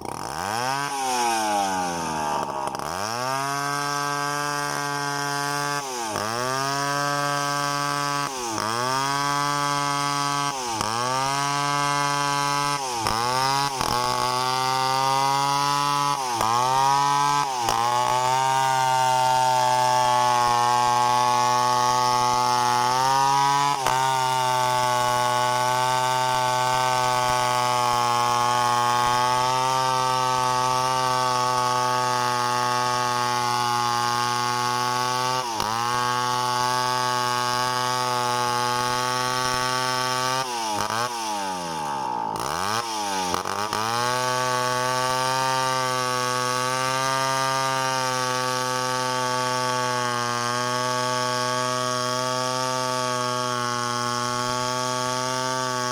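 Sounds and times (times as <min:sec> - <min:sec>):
chainsaw running at high revs: 0:00.0 - 0:55.9.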